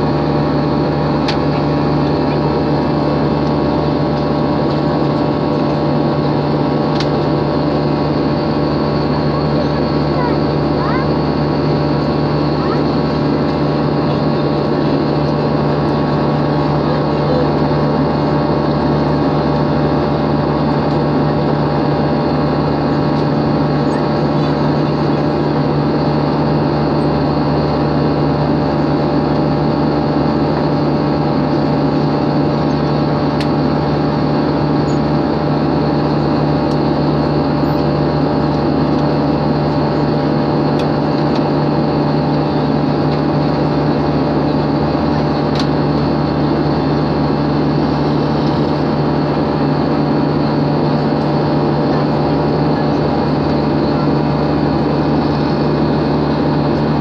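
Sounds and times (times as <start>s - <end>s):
jet airliner cabin drone: 0.0s - 57.0s.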